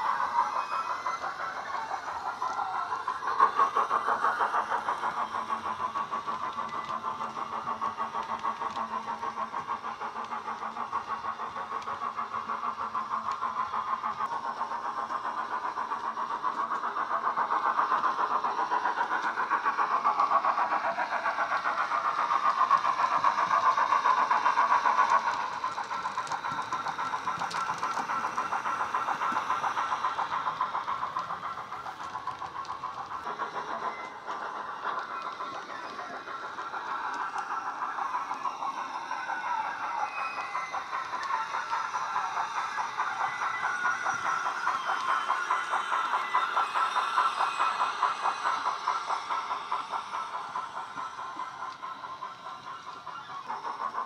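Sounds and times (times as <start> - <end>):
model steam locomotive chuffs: 0.0 - 54.0.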